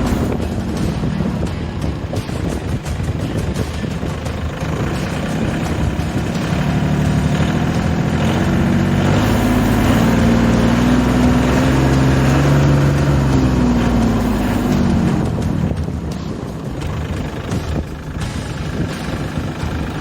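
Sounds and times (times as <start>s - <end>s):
farm machine engine revving: 0.0s - 20.0s.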